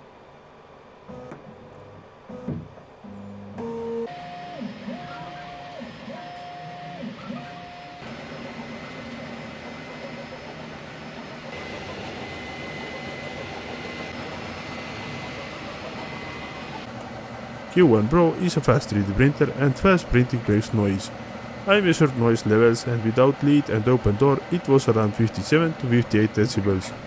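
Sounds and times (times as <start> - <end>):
printer motors whining: 1.1 - 27.0
printer whirring: 3.6 - 27.0.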